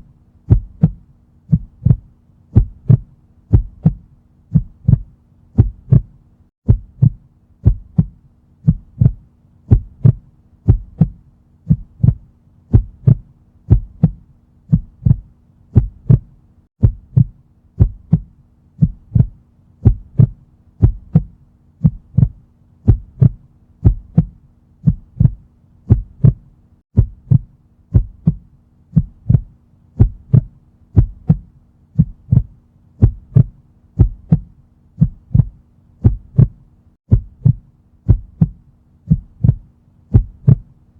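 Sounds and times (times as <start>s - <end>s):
heartbeat thumps: 0.0s - 40.8s
faint steady hum: 0.0s - 40.9s.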